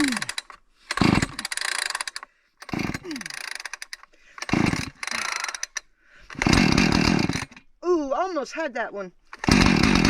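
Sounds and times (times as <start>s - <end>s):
chainsaw engine turning over: 0.0s - 7.7s, 9.3s - 10.0s
chainsaw starter cord pulls: 0.0s - 7.7s, 9.3s - 10.0s.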